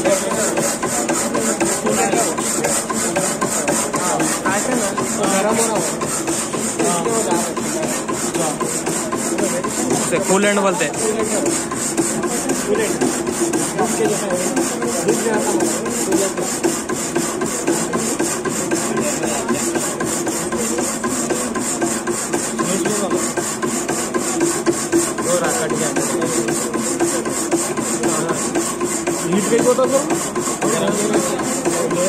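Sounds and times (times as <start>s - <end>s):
hacksaw blade rasping strokes: 0.0s - 32.0s.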